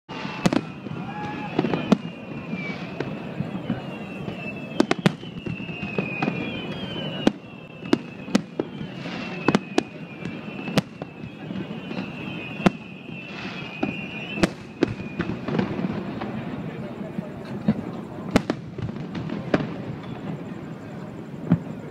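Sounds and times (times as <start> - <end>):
fireworks bangs: 0.1 - 21.9.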